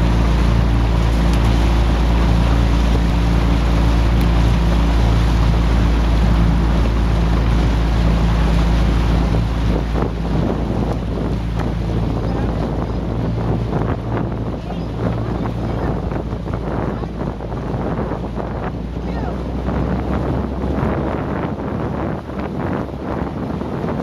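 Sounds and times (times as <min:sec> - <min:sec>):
outboard motor running: 0:00.0 - 0:24.0
wind rushing over microphone: 0:00.0 - 0:24.0.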